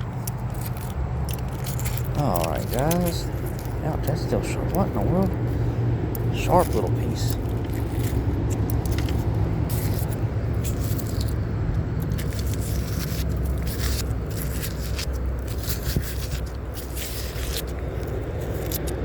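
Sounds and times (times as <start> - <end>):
scrap metal scraping and clicking: 0.0 - 4.8, 5.5 - 19.0
steady low rumble: 0.0 - 19.0.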